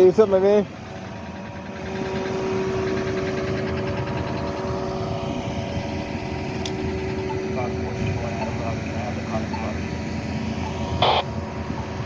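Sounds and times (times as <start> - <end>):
motor vehicle engine humming: 0.0 - 12.0.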